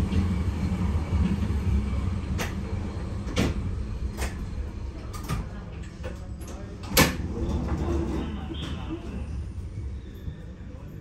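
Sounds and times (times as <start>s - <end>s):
train running rumble: 0.0s - 10.0s.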